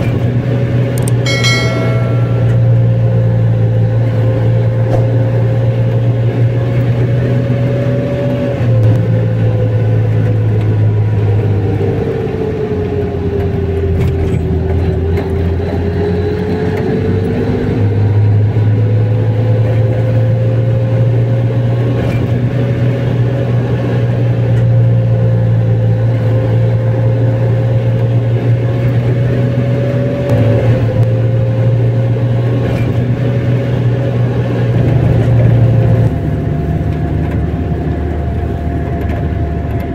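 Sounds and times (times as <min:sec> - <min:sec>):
car engine and road drone: 0:02.4 - 0:39.9.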